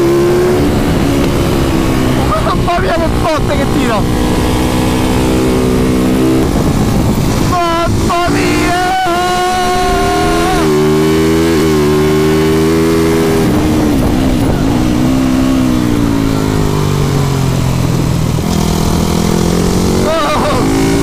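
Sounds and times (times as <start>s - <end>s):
motorcycle engine at speed: 0.0s - 21.0s.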